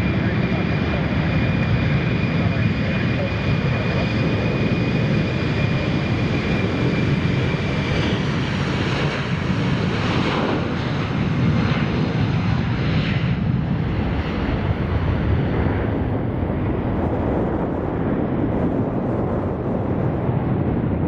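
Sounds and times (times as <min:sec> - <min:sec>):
jet engine whine: 0:00.0 - 0:21.0
jet engines running: 0:00.0 - 0:21.0
wind rumble on microphone: 0:00.0 - 0:21.0.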